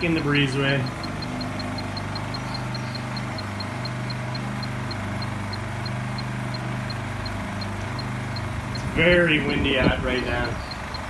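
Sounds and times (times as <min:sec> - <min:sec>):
faint high ticking: 0:00.0 - 0:11.0
generators humming: 0:00.0 - 0:11.0.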